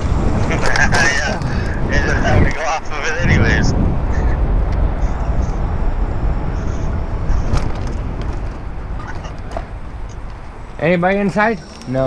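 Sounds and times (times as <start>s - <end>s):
e-bike road noise: 0.0s - 12.0s
wind rumbling on microphone: 0.0s - 12.0s.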